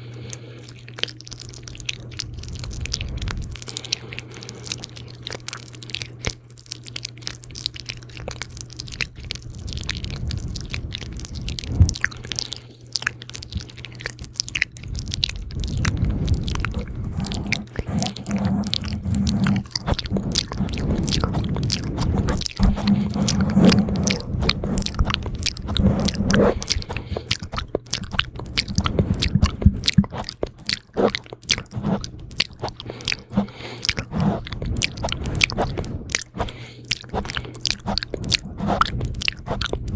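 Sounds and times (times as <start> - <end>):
wet lip and tongue clicks: 0.0 - 39.9.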